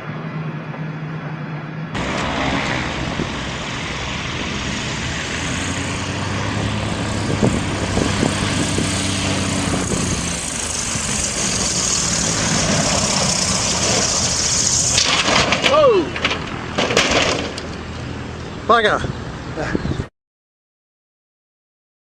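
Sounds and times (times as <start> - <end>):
rushing noise: 0.0 - 18.4
engine running: 0.0 - 19.8.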